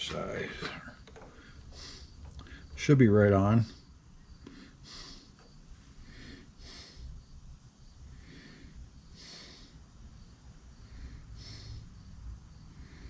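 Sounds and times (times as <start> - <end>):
soft breathing: 0.0 - 13.0.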